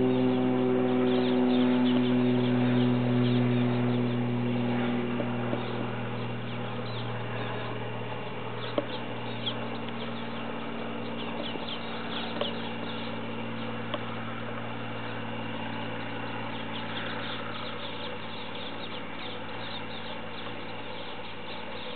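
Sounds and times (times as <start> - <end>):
small birds chirping: 0.0 - 21.9
steady low hum: 0.0 - 21.9.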